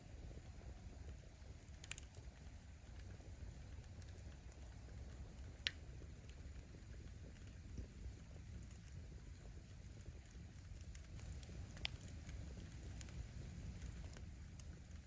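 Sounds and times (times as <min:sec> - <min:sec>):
fire crackling: 0:00.0 - 0:15.0
flames rumbling: 0:00.0 - 0:15.0.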